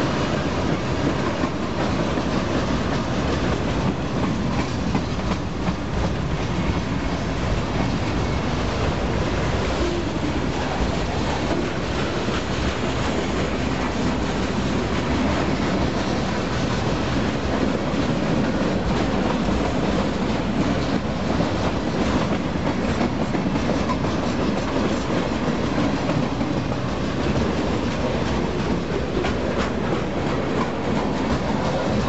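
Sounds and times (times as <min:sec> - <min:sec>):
freight train wheels rolling on rails: 0:00.0 - 0:32.0
wheels clicking over rail joints: 0:00.0 - 0:32.0.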